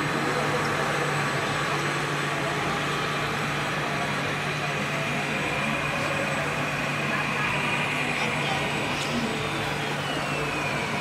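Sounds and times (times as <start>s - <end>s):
model vehicles humming: 0.0s - 11.0s.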